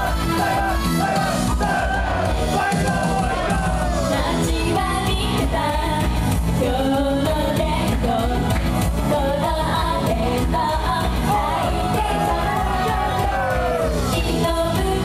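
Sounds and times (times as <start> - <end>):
group singing pop song: 0.0 - 15.0
loud backing track with beat: 0.0 - 15.0.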